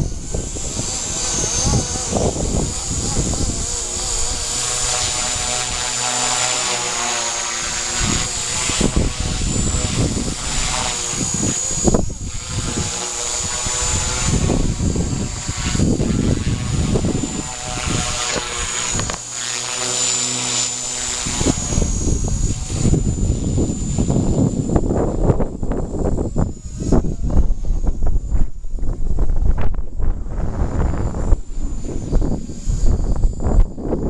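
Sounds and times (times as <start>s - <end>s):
high-pitched whine: 0.0s - 34.0s
wind buffeting microphone: 0.0s - 34.0s.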